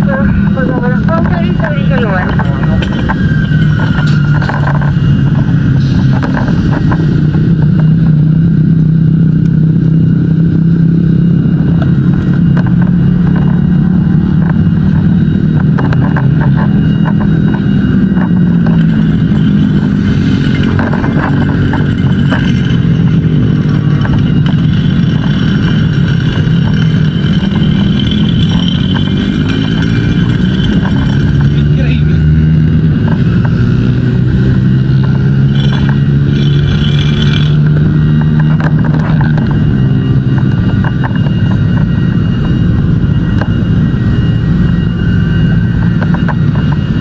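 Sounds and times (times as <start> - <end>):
large engine running: 0.0 - 47.0.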